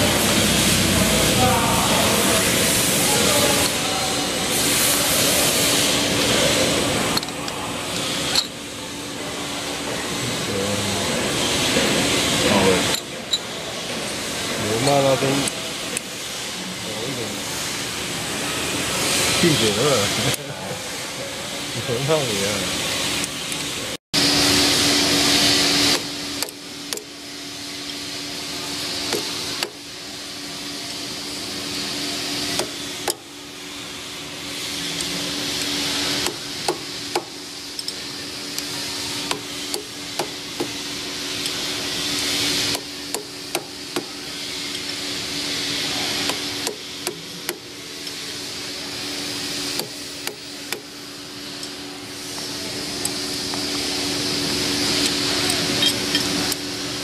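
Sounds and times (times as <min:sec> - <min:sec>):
steady machine hiss: 0:00.0 - 0:57.0.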